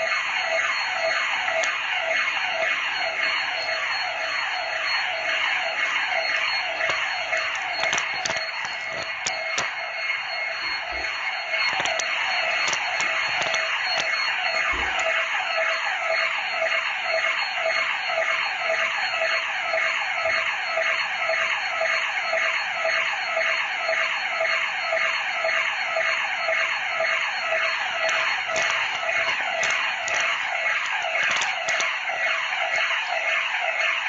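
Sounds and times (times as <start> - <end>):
burglar alarm siren: 0.0 - 34.0.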